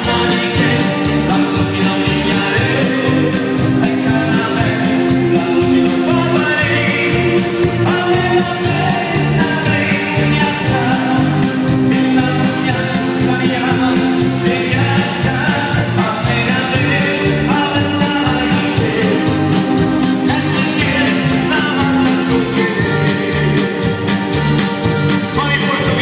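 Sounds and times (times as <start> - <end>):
keyboard music with beat: 0.0 - 26.0
person singing: 0.0 - 26.0.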